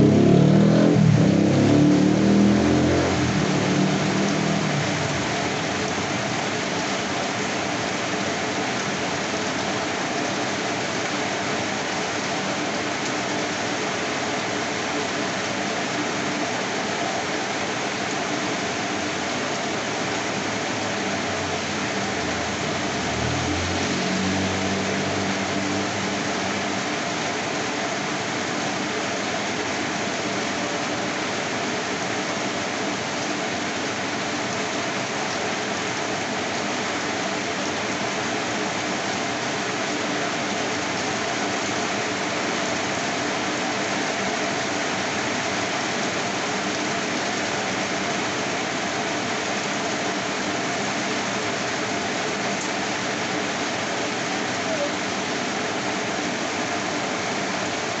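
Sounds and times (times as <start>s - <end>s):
rain on street and roofs: 0.0s - 58.0s.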